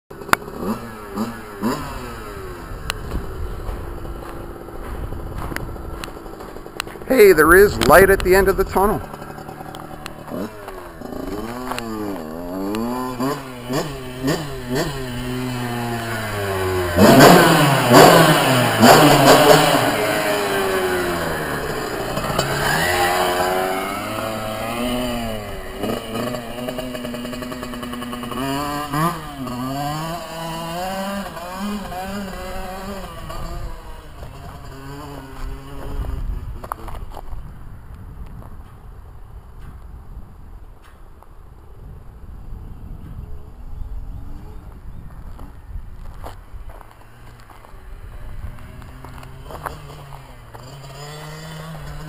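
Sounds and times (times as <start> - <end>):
dirt bike engine revving: 0.1 - 37.0, 47.1 - 52.0.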